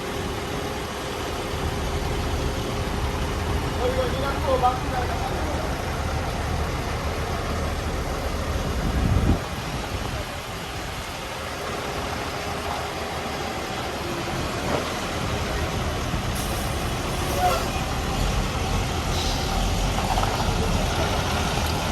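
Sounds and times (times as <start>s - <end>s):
diesel truck engine running: 0.0s - 21.9s.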